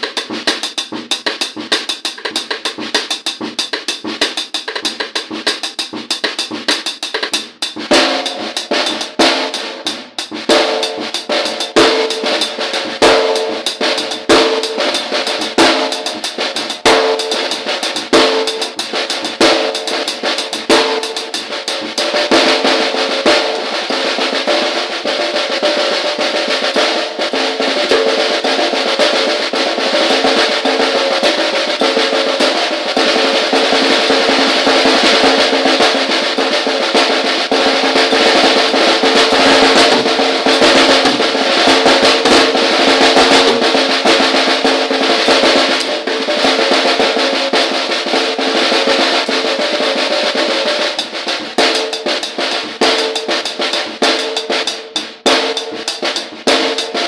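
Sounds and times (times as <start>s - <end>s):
snare drum roll: 0.0s - 57.0s.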